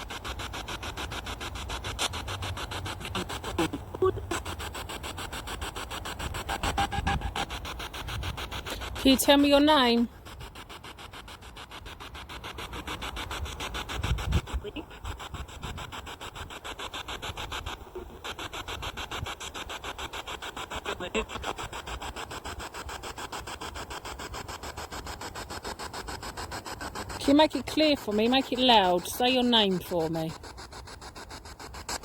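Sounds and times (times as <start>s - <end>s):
radio static chopping: 0.0s - 25.2s, 25.9s - 32.0s.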